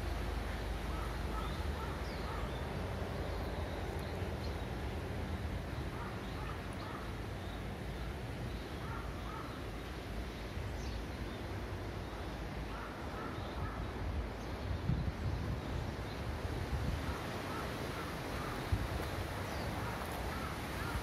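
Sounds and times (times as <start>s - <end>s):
low rumble and hiss: 0.0s - 21.0s.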